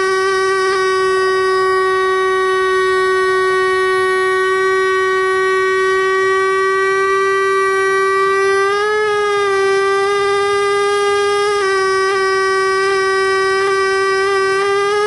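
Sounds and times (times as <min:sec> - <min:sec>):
air scribe whining: 0:00.0 - 0:15.0.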